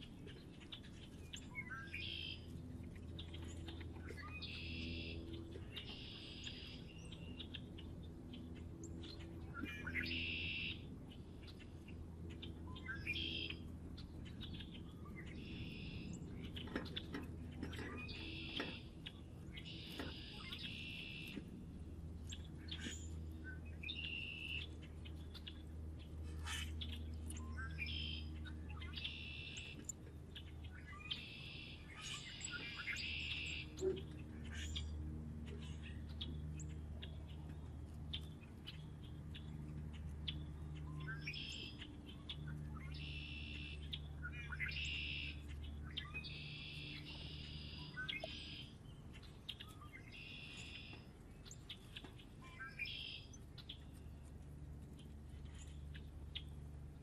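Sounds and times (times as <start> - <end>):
birds chirping and singing: 0.0 - 57.0
steady low rumble: 0.0 - 57.0.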